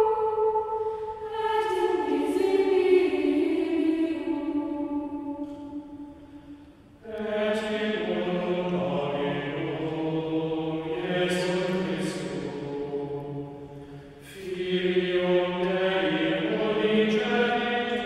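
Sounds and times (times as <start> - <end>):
choir holding long notes: 0.0 - 18.0.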